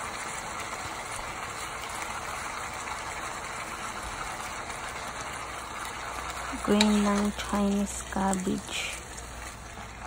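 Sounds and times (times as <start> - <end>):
cabbage sizzling in a wok: 0.0 - 10.0.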